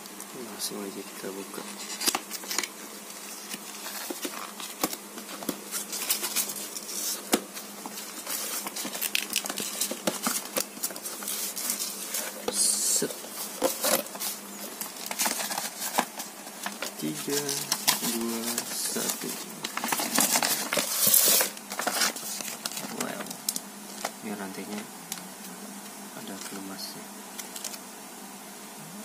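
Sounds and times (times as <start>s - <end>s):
cardboard and paper rustling: 1.2s - 25.6s, 27.3s - 27.8s.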